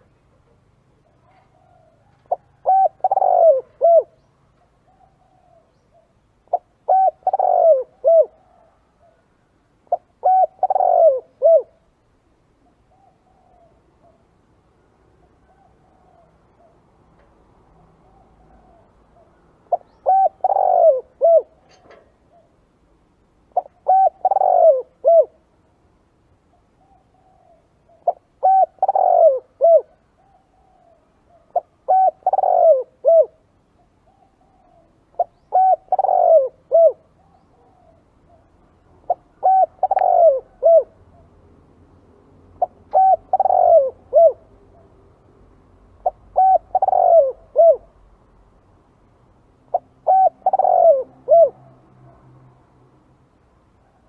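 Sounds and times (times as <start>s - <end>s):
dove cooing: 0.0s - 11.9s, 12.6s - 14.4s, 15.2s - 16.9s, 17.7s - 22.6s, 23.4s - 25.5s, 26.5s - 41.4s, 42.6s - 44.9s, 46.0s - 48.0s, 49.7s - 51.8s.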